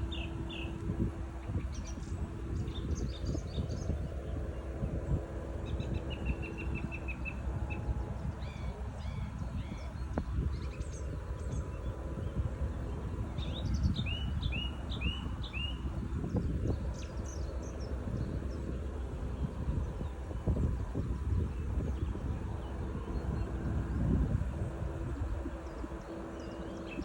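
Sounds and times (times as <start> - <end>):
small birds chirping: 0.0 - 27.0
steady low rumble: 0.0 - 27.0.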